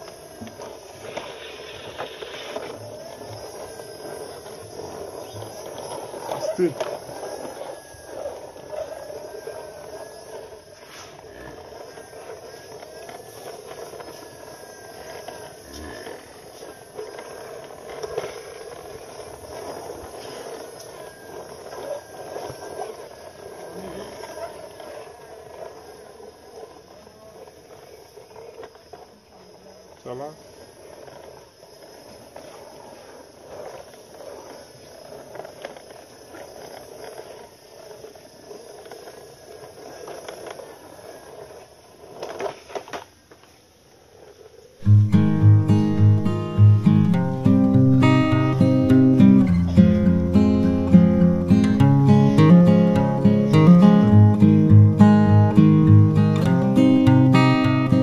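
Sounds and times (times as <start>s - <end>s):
plastic toy wheels rolling on concrete: 0.0s - 58.0s.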